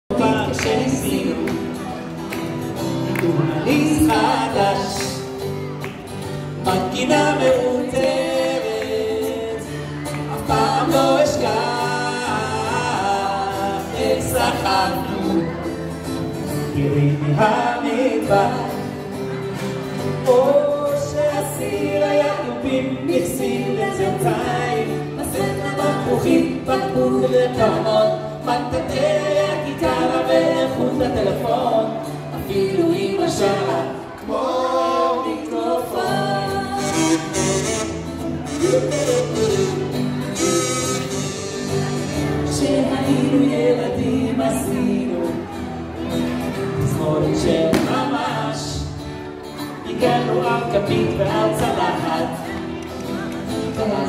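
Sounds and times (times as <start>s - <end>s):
man and woman singing: 0.1s - 2.0s, 2.9s - 5.5s, 6.4s - 19.4s, 20.0s - 52.8s, 53.5s - 54.0s
strummed acoustic guitar: 0.1s - 54.0s.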